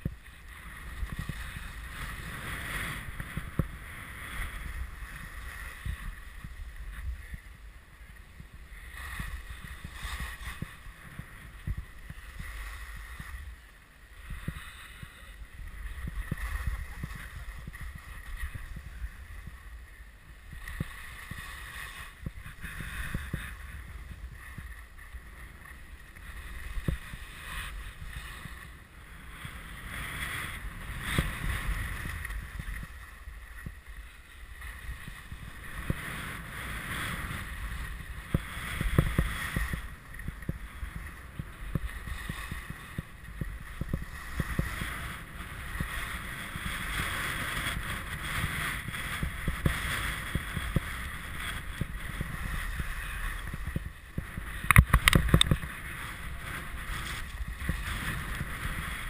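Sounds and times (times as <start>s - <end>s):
skis scraping over snow: 0.0s - 59.0s
wind buffeting microphone: 0.0s - 59.0s.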